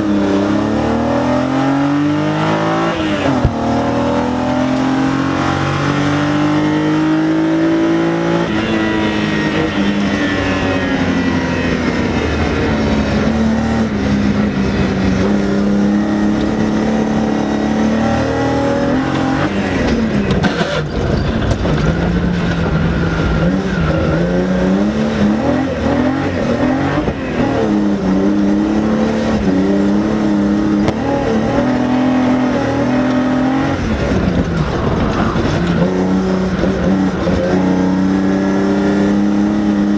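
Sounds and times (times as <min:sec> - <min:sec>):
car engine revving: 0:00.0 - 0:39.9
road and tyre noise: 0:00.0 - 0:39.9.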